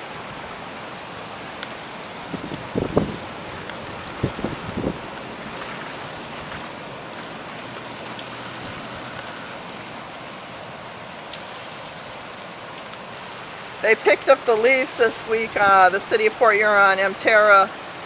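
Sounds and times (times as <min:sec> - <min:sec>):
heavy rain splashing on street: 0:00.0 - 0:18.0.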